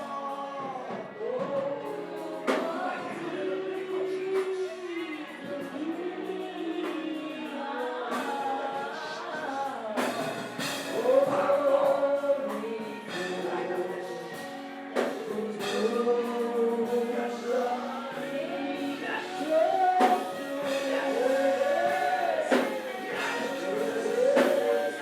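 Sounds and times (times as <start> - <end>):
congregation singing: 0.0 - 25.0.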